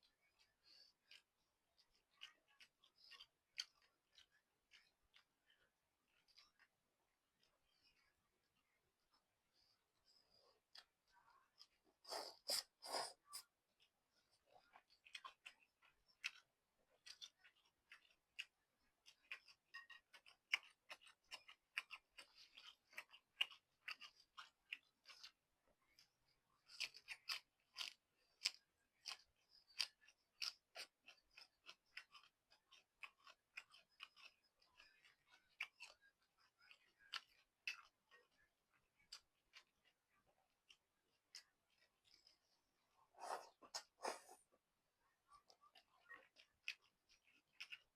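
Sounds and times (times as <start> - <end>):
chewing noodles: 0.0 - 47.9.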